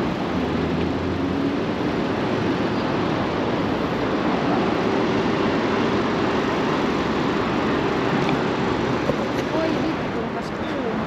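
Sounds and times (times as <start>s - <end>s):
low engine hum: 0.0s - 11.0s
road traffic: 0.0s - 11.0s.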